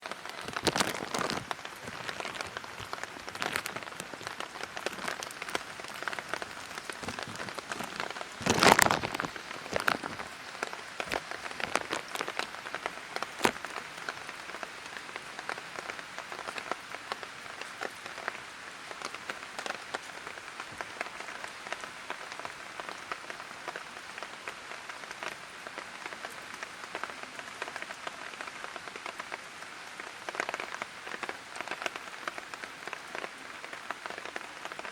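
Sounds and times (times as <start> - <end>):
light rain falling: 0.0 - 34.9
raindrops ticking: 0.0 - 34.9.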